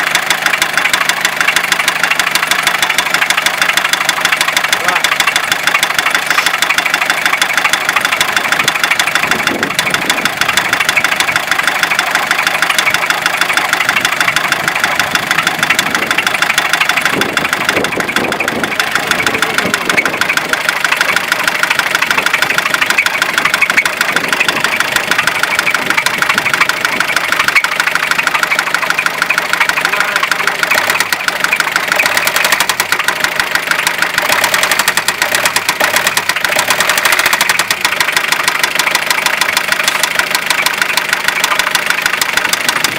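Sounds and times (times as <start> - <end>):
diesel engine idling with knock: 0.0 - 42.9.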